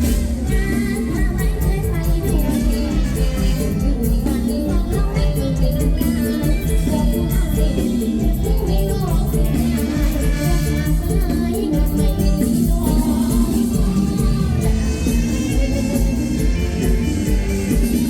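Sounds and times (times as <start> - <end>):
music with steady beat: 0.0 - 18.0
person singing: 0.0 - 18.0.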